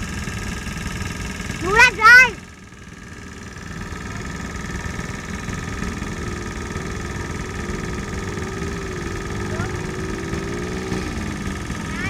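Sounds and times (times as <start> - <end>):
quad bike engine running: 0.0 - 12.0
steady hum: 0.0 - 12.0.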